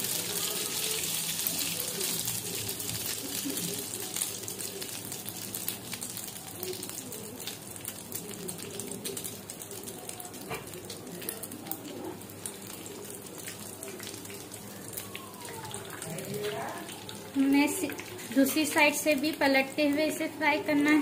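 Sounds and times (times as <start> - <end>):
oil crackling and popping: 0.0 - 20.2
meat sizzling in hot oil: 0.0 - 20.4.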